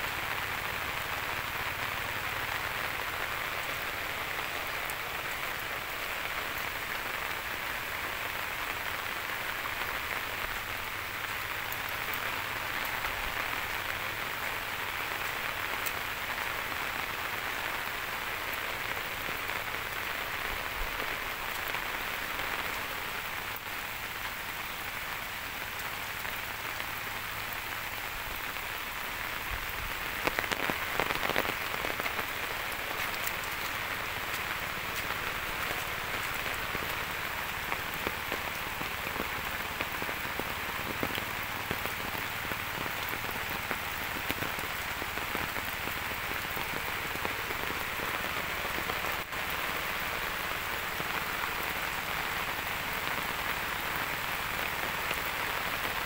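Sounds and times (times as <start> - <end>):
rain on leaves and ground: 0.0 - 56.0.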